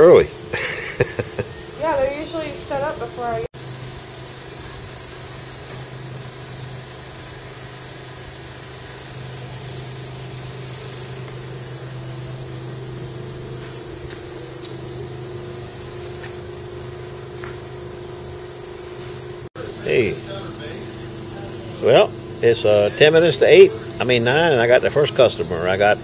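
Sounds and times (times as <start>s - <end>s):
insects buzzing: 0.0s - 26.0s
low engine hum: 5.0s - 26.0s.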